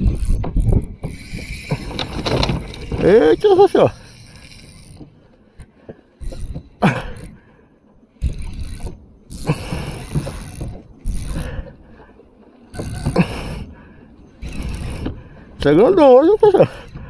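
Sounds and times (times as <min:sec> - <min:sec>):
fishing reel gears grinding: 0:00.0 - 0:05.2, 0:06.2 - 0:07.3, 0:08.2 - 0:11.6, 0:12.7 - 0:17.0.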